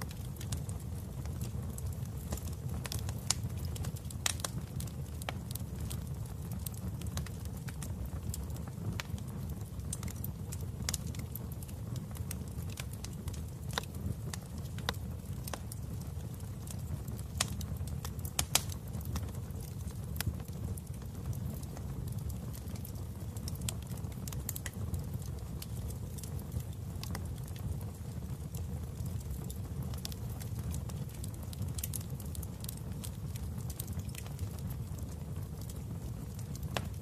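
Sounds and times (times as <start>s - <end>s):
low rumble of flames: 0.0s - 37.0s
wood fire pops and crackles: 0.0s - 37.0s.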